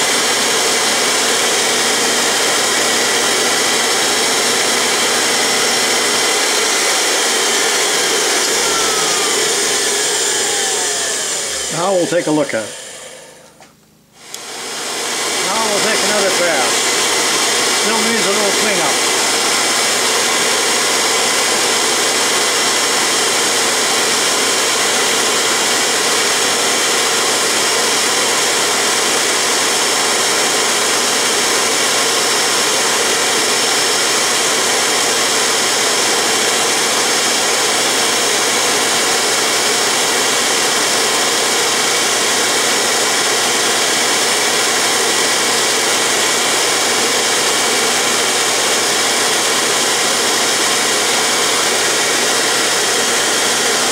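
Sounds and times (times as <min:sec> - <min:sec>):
grinder whining and grinding: 0:00.0 - 0:53.9.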